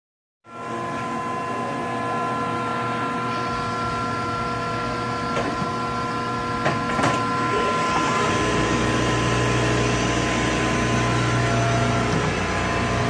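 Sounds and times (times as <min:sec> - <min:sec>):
lathe humming and whining: 0:00.5 - 0:13.0.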